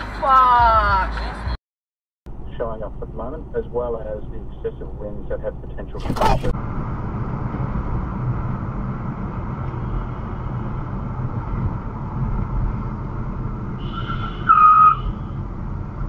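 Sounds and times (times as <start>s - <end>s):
car road and engine noise: 0.0s - 1.6s, 2.3s - 16.0s.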